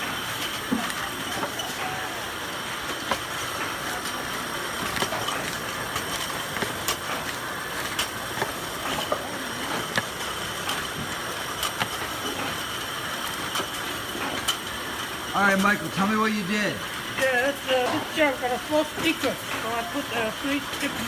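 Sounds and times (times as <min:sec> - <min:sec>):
machine noise with high whine: 0:00.0 - 0:21.0.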